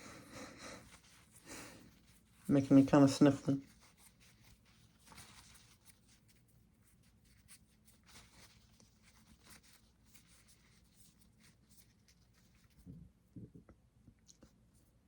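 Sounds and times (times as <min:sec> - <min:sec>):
paper tissue rustling and scratching: 0:00.0 - 0:12.9.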